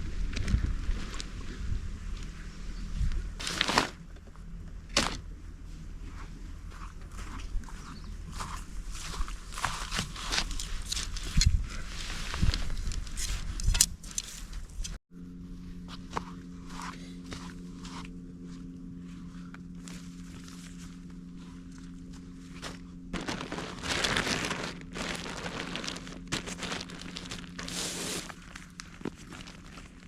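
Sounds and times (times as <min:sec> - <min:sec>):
steady low hum: 0:00.0 - 0:30.0
footsteps on rough ground: 0:03.4 - 0:15.0, 0:15.8 - 0:30.0.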